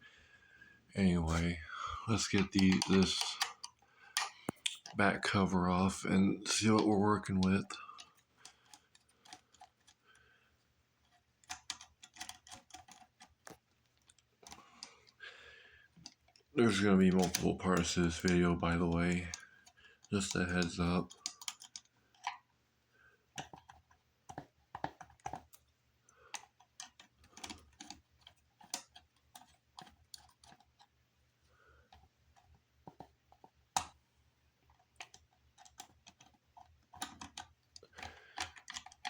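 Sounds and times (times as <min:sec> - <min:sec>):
plastic parts clicking and knocking: 0:01.3 - 0:10.3, 0:11.0 - 0:22.6, 0:23.2 - 0:31.0, 0:31.8 - 0:34.0, 0:34.6 - 0:39.0.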